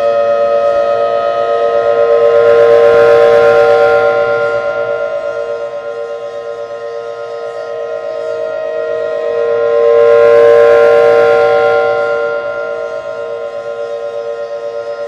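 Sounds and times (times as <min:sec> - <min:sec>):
two-note warning siren: 0:00.0 - 0:15.0.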